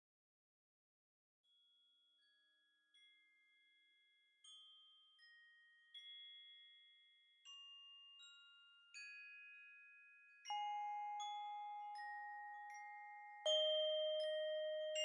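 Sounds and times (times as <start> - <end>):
bell-like mallet melody: 2.2 - 15.0.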